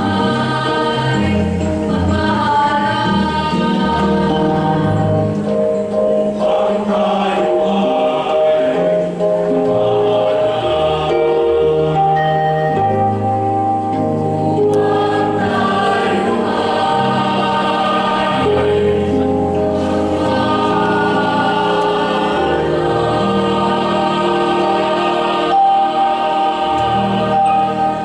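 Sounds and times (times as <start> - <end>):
mixed choir singing held chords: 0.0 - 28.0.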